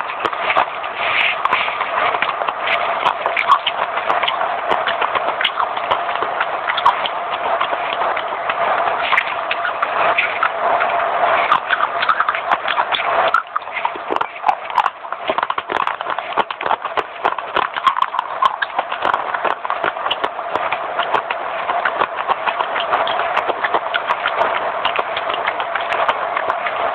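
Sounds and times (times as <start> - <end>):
person chewing crunchy food: 0.0 - 26.9.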